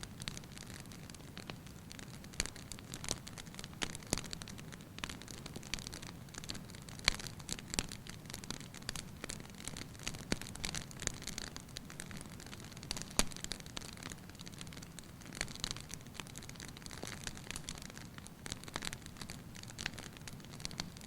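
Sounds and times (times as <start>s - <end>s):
fire burning in a fireplace: 0.0s - 21.0s
fire crackles and pops: 0.0s - 21.0s.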